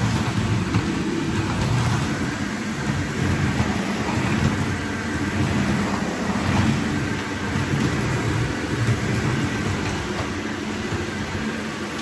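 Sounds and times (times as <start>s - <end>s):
vacuum cleaner on tiled floor: 0.0s - 12.0s.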